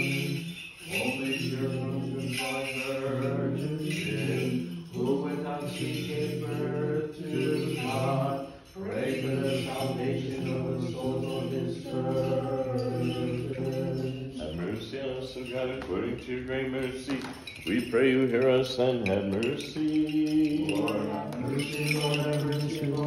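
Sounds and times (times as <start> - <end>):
men chanting hymns: 0.0 - 23.0.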